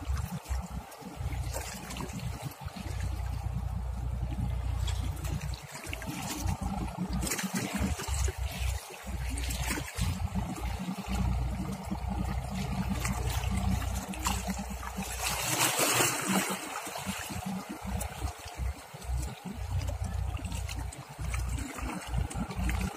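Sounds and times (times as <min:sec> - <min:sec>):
low rumble: 0:00.0 - 0:22.9
water lapping and trickling: 0:00.0 - 0:22.9.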